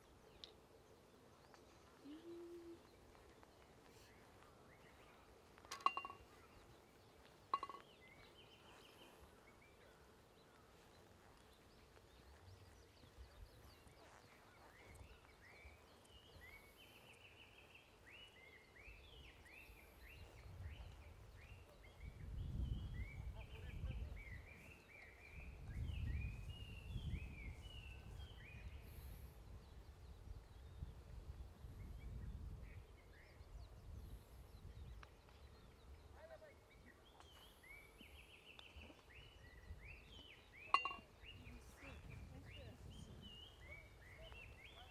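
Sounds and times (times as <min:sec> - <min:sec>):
bird chirping: 0:00.0 - 0:30.9, 0:31.8 - 0:44.9.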